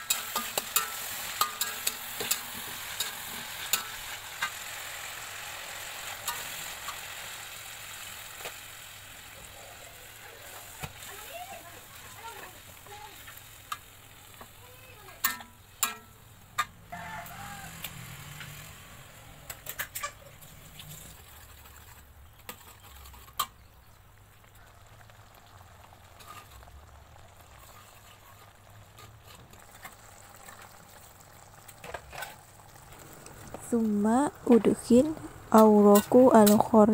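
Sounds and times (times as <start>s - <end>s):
spatula stirring in a wok: 0.0s - 14.6s, 15.2s - 33.6s, 34.4s - 36.9s
food sizzling in a wok: 0.0s - 36.9s.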